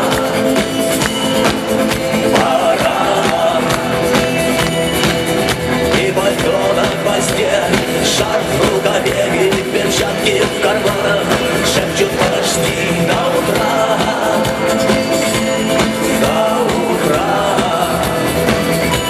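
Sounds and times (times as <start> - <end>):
rock band playing: 0.0 - 19.0
steady drum beat: 0.0 - 19.0.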